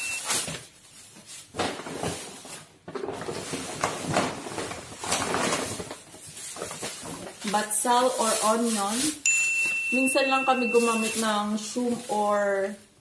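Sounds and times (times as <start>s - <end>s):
plastic bags rustling and crinkling: 0.0s - 13.0s.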